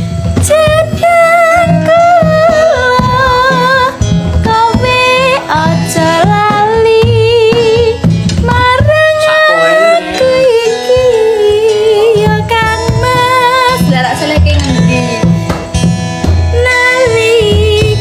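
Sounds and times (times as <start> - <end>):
high melody with vibrato: 0.0 - 18.0.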